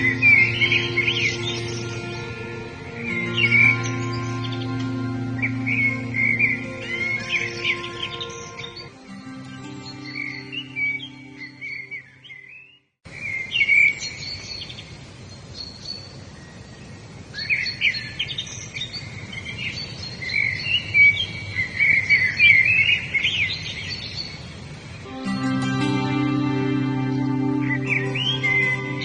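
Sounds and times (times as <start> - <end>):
steady background hiss: 0.0 - 12.2, 13.1 - 29.0
wild birds chirping and singing: 0.0 - 25.0, 27.0 - 29.0.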